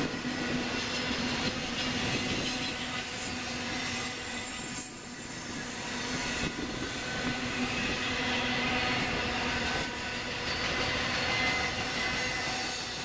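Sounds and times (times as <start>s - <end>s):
freight train wheels rolling: 0.0s - 13.0s.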